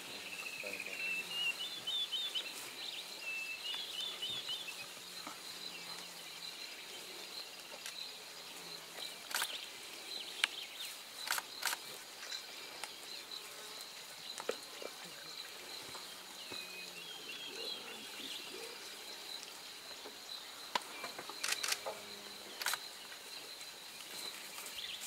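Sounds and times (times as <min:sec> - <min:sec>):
high insect drone: 0:00.0 - 0:25.0.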